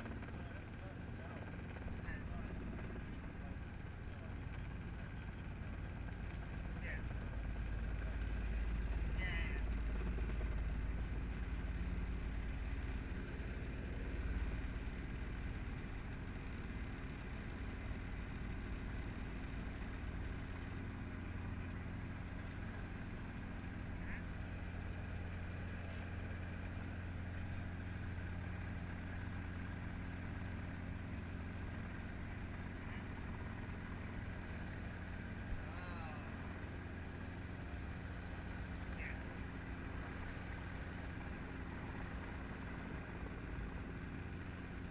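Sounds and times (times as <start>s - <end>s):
helicopter engine and rotor hum: 0.0s - 44.9s.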